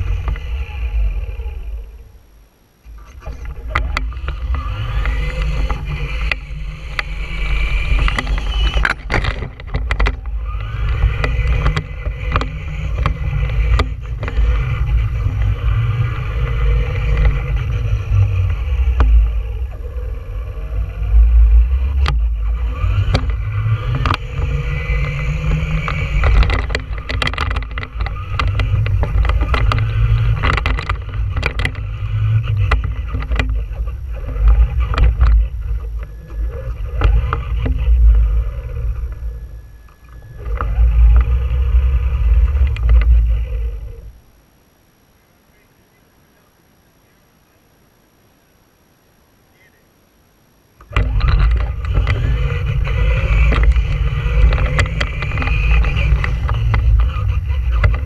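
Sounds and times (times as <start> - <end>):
electric motor whine: 0.0 - 45.3, 50.5 - 58.0
toy truck rumbling over concrete: 3.0 - 44.2, 50.8 - 58.0.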